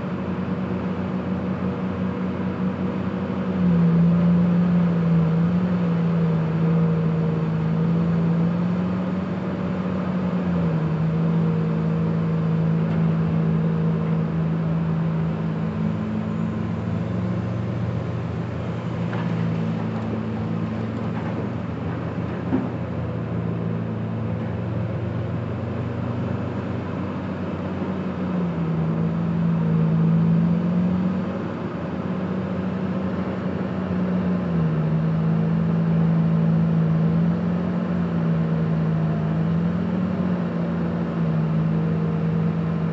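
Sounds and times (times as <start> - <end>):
diesel excavator engine under load: 0.0 - 42.9.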